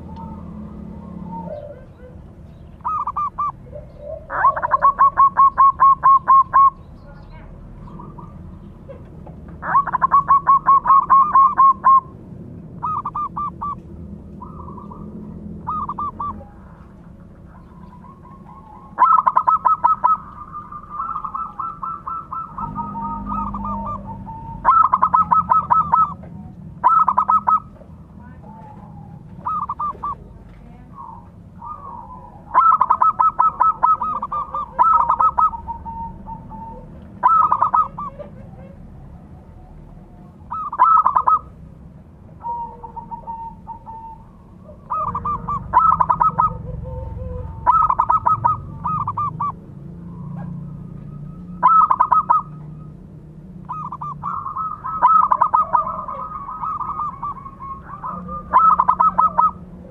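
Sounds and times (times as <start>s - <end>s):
dove cooing: 0.0s - 6.9s, 7.8s - 41.6s, 42.4s - 53.0s, 53.6s - 59.9s.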